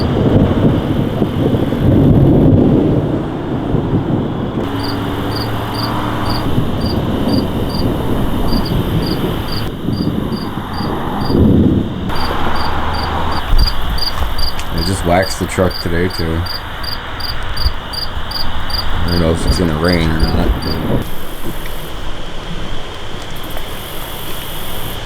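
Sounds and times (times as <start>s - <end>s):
crickets chirping: 0.0s - 25.0s
thunder rumbling: 0.0s - 25.0s.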